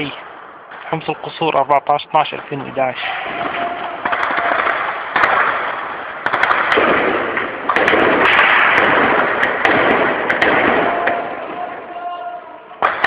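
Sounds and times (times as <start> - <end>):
gunfire volleys echoing: 0.0 - 13.0.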